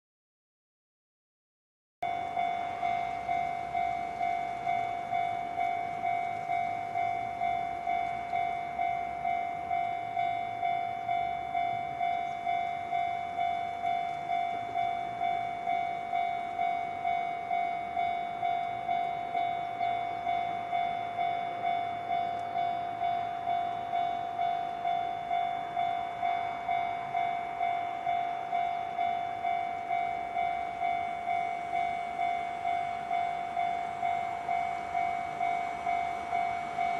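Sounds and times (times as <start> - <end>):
level crossing bell ringing: 2.0 - 36.9.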